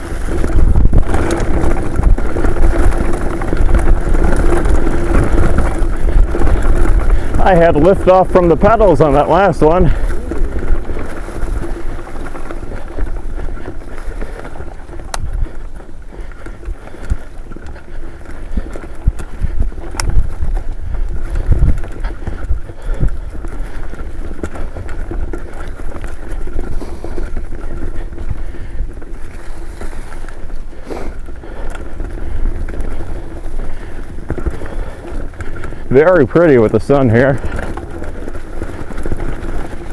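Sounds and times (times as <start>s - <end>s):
bike clicks and rattles: 0.0s - 39.9s
tyre rumble on dirt: 0.0s - 39.9s
wind buffeting microphone: 0.0s - 39.9s.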